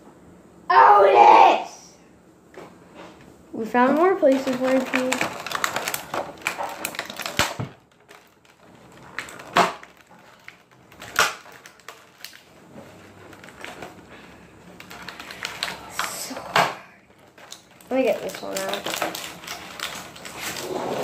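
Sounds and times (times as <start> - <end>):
plastic packaging crackling: 3.6 - 21.0.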